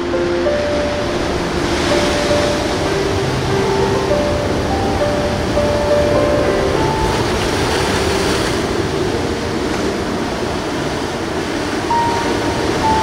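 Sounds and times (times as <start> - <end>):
sea waves breaking on rocks: 0.7 - 13.0.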